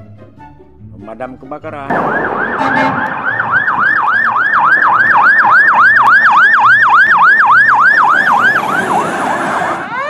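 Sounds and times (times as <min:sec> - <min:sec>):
fire engine siren yelping: 0:01.9 - 0:10.0.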